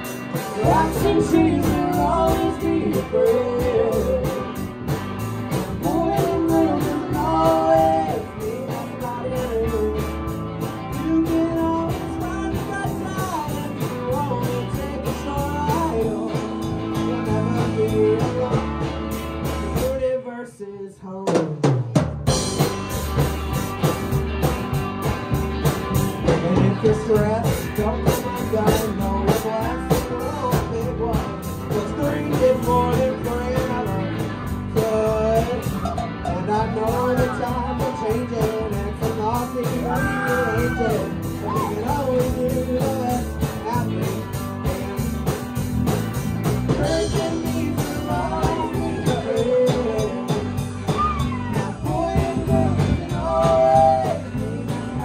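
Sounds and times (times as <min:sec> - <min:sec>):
rock band playing live: 0:00.0 - 0:20.2, 0:21.4 - 0:55.0
person singing: 0:00.3 - 0:04.7, 0:05.6 - 0:18.9, 0:26.2 - 0:45.0, 0:46.6 - 0:55.0.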